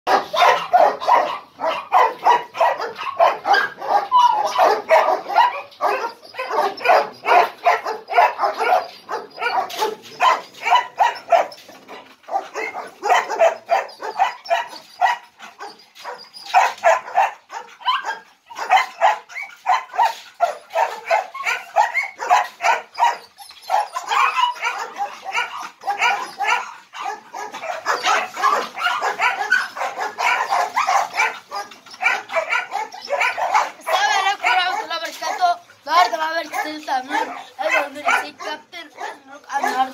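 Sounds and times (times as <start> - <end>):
dogs barking rapidly: 0.1 - 39.9.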